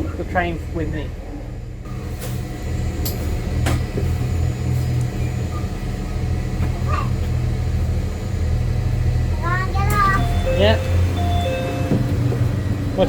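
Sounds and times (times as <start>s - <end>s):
train engine rumbling: 0.0s - 13.0s.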